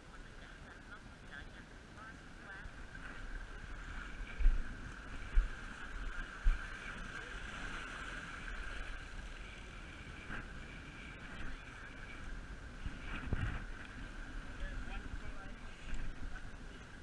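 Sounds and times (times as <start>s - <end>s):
choppy water against rocks: 0.0s - 17.0s
wind buffeting microphone: 0.0s - 17.0s.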